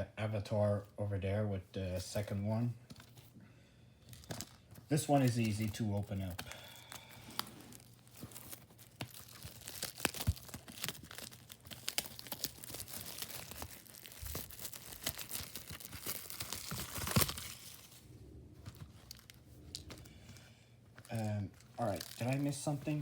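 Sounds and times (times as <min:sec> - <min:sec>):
plastic wrap tearing and crinkling: 0:04.0 - 0:23.0.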